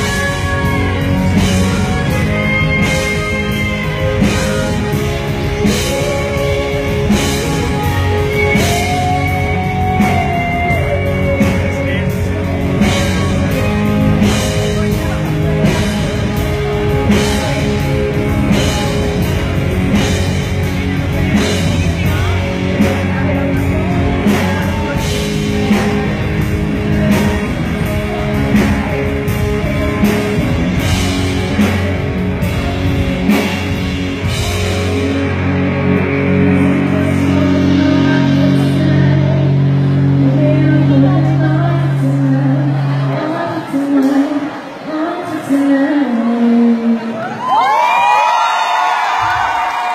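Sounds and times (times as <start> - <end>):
drum kit beat: 0.0 - 41.1
person singing: 0.0 - 47.6
electric guitar: 0.0 - 49.9.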